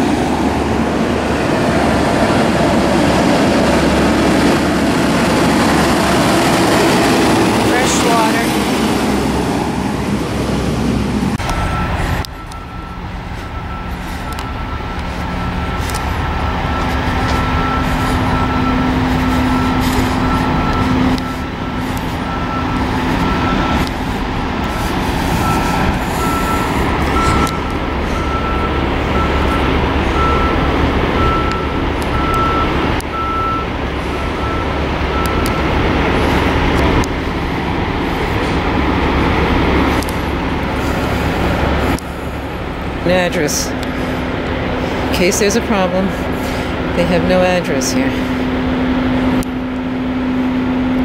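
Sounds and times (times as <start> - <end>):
diesel truck engines rumbling: 0.0 - 51.0
truck reversing alarm beeps: 0.0 - 51.0.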